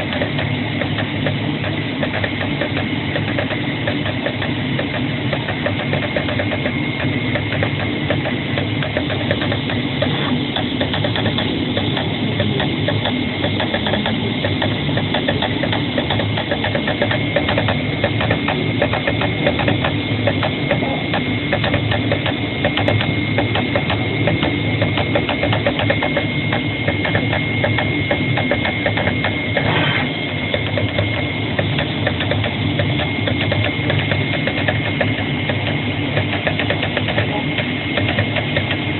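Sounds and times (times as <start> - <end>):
cutting machine chattering: 0.0 - 38.9
steady hum: 0.0 - 38.9
thin high whine: 0.0 - 38.9.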